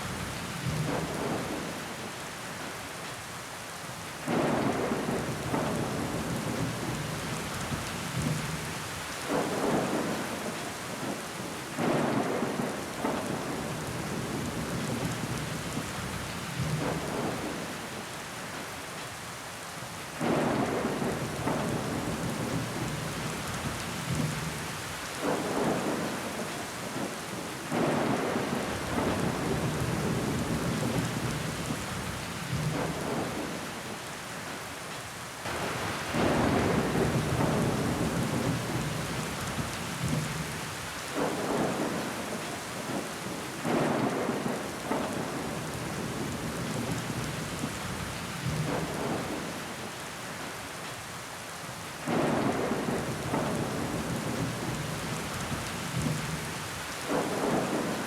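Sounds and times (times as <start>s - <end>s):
rain on a window pane: 0.0s - 58.0s.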